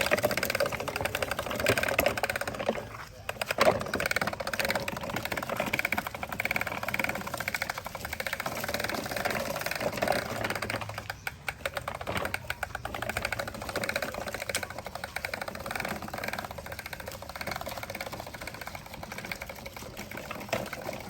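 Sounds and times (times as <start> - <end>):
toy motor whirring and clicking: 0.0 - 21.0.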